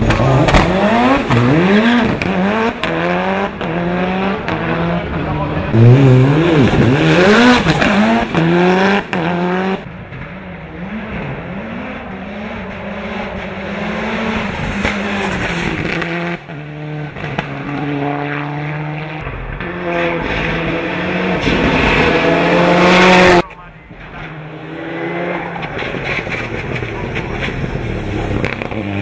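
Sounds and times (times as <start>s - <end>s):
turbocharged engine accelerating hard: 0.0s - 29.0s.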